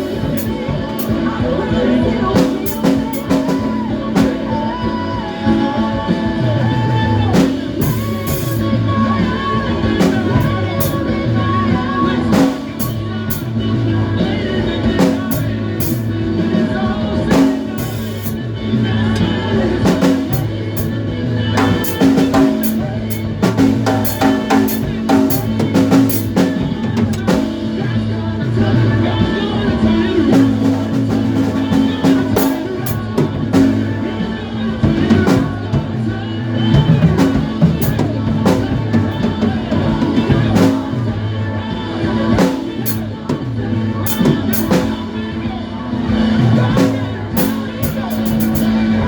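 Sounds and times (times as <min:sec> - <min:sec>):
drum kit hits: 0:00.0 - 0:41.2, 0:42.0 - 0:45.2, 0:46.1 - 0:49.0
bass guitar notes: 0:00.0 - 0:49.0.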